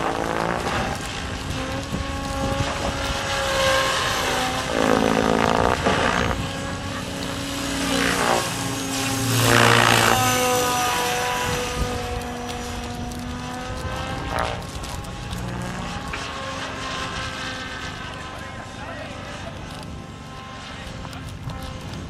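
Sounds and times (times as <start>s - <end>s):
model helicopter motor and rotor whine: 0.0s - 22.0s.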